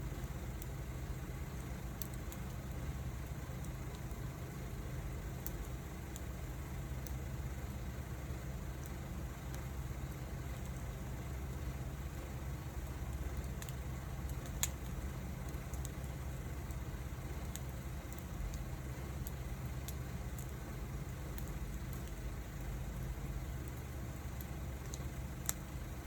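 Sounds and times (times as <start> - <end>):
fire low rumble: 0.0 - 26.0
wood fire ticks and pops: 0.0 - 26.0.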